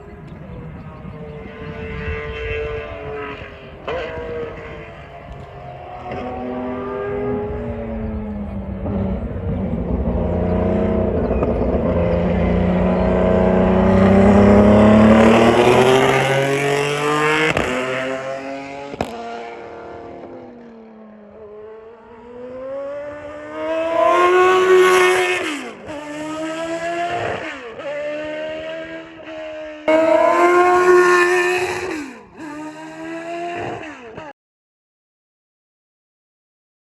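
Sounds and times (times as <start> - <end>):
racing car engine passing: 0.0 - 34.3
racing car accelerating through gears: 0.2 - 34.3.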